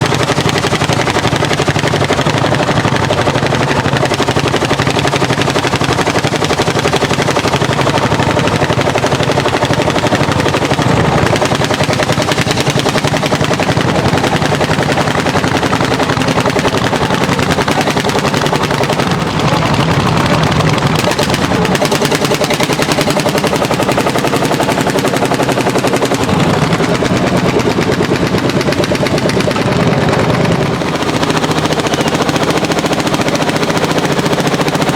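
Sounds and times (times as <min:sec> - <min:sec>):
tractor engine working hard: 0:00.0 - 0:34.9.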